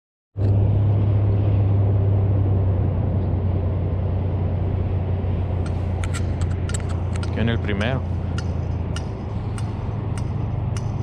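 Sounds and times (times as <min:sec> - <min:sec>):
constant low hum: 0:00.4 - 0:11.0
road traffic rumble: 0:00.4 - 0:11.0.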